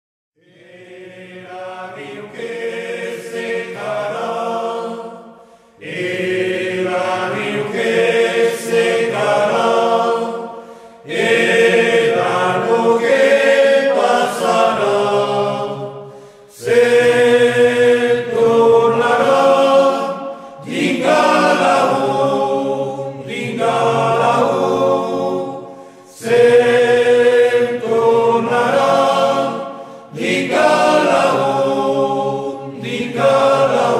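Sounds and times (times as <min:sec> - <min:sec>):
choir singing a slow chant: 0:00.4 - 0:33.9.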